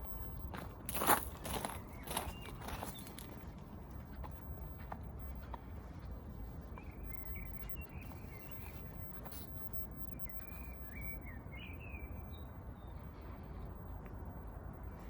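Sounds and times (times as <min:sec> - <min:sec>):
low city hum: 0:00.0 - 0:15.0.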